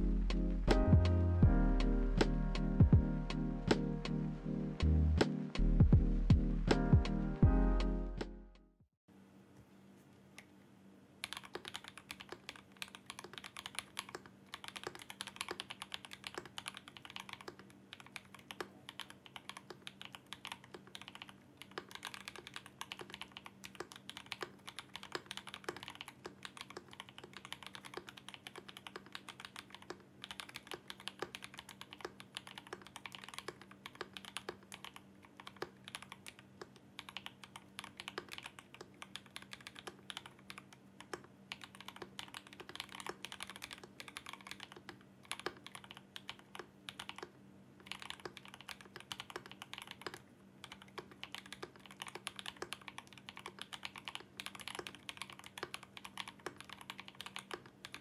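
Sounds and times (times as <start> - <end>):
mechanical keyboard typing: 11.2 - 58.0.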